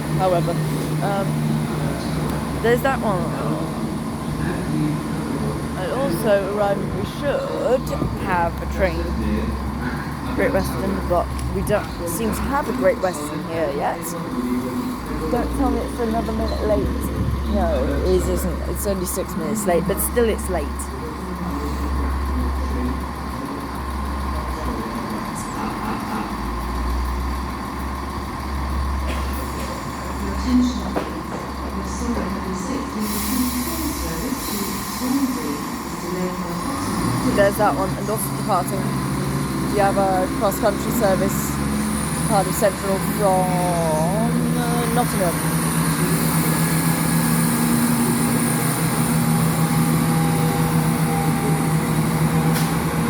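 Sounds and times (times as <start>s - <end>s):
diesel train engine idling: 0.0s - 53.0s.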